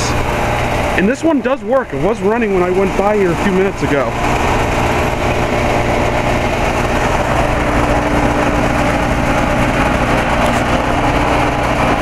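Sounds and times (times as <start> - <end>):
air conditioner unit humming: 0.0 - 12.0
fan air rushing: 0.0 - 12.0.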